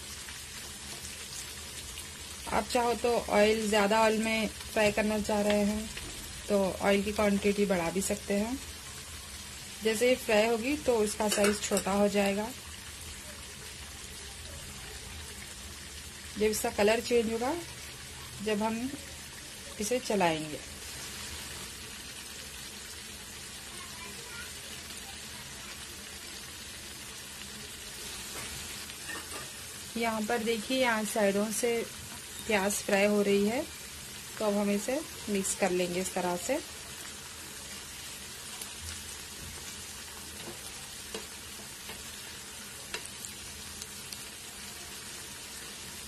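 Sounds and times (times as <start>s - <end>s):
onions sizzling in hot oil: 0.0s - 46.0s.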